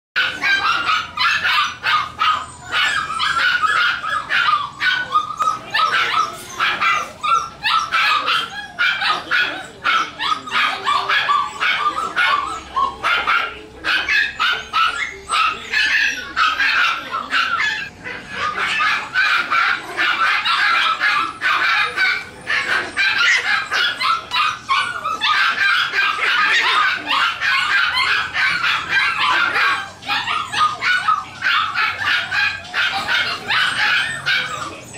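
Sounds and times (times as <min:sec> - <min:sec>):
puppies yipping and barking: 0:00.2 - 0:34.9.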